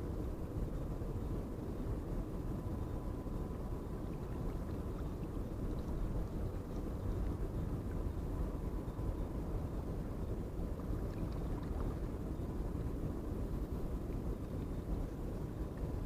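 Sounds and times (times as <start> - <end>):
faint steady hum: 0.0 - 16.0
low harbour rumble: 0.0 - 16.0.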